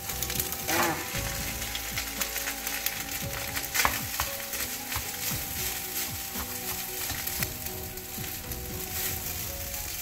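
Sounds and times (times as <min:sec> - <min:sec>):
rice sizzling in a wok: 0:00.0 - 0:10.0.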